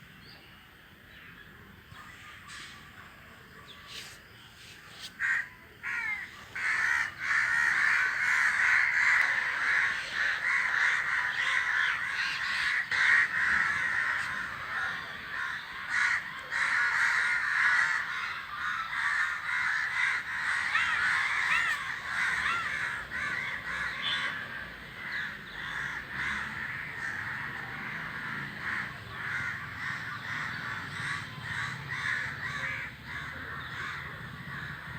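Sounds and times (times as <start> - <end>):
crows cawing: 5.2 - 34.9.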